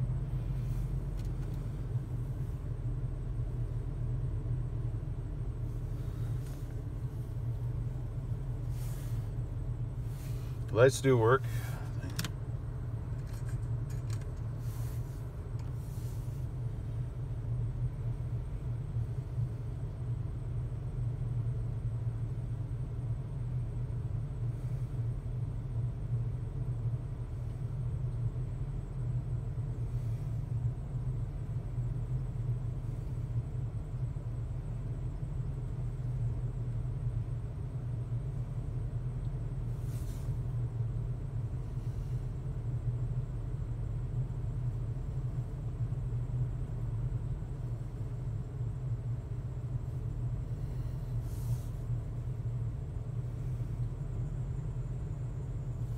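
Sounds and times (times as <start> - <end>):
engine idling low rumble: 0.0 - 55.9.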